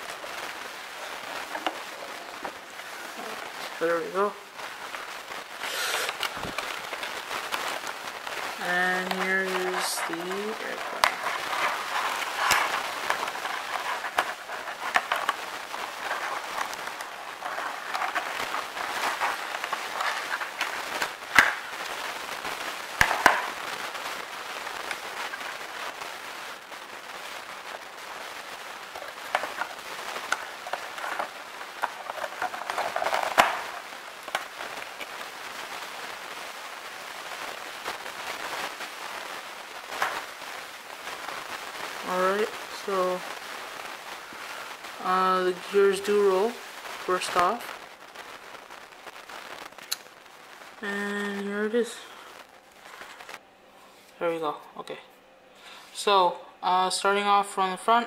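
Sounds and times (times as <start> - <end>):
plastic bag crinkling: 0.0 - 48.6, 49.7 - 53.4.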